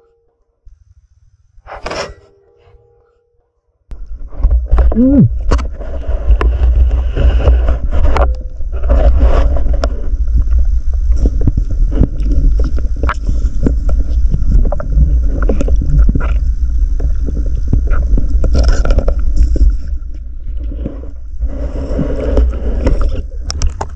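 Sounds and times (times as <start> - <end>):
underwater rumble: 3.9 - 23.9.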